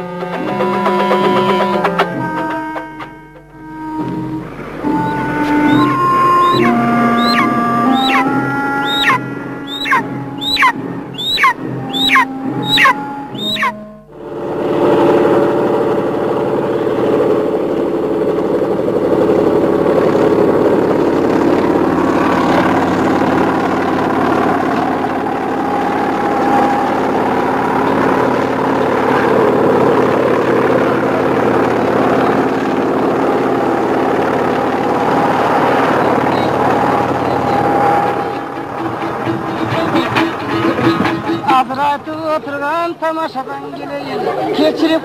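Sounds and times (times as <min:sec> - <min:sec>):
engine drone: 0:00.0 - 0:45.0.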